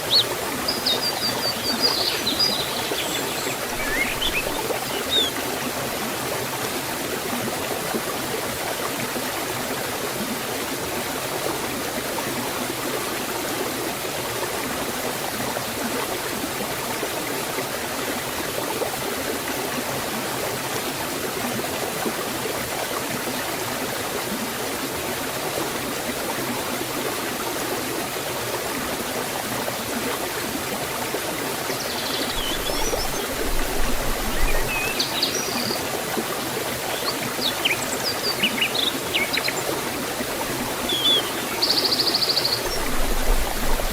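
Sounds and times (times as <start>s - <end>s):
waterfall rushing and splashing: 0.0s - 43.9s.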